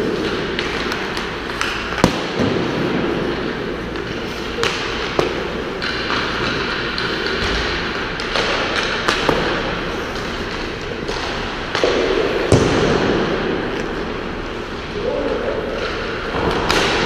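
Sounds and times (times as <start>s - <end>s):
pucks clacking against sticks: 0.0s - 13.0s, 14.8s - 17.0s.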